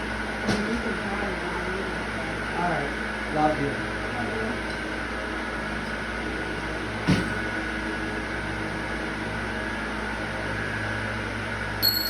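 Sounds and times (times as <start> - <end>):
mechanical fan hum: 0.0 - 12.0.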